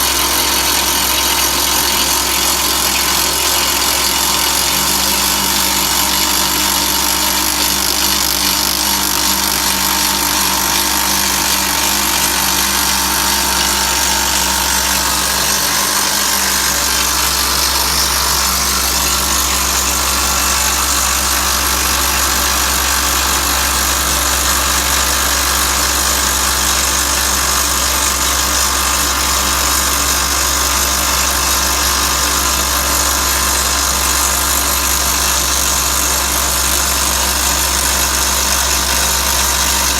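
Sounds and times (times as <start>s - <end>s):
rock drill hammering: 0.0s - 39.9s.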